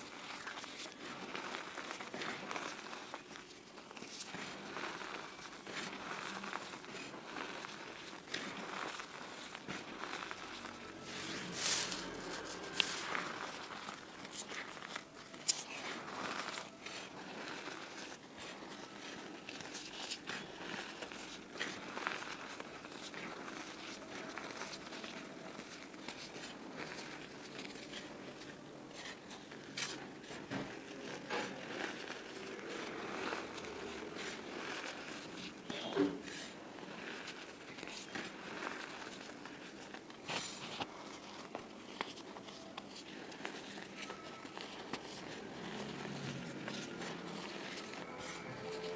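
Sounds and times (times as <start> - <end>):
hands crunching chalk powder: 0.0 - 48.9.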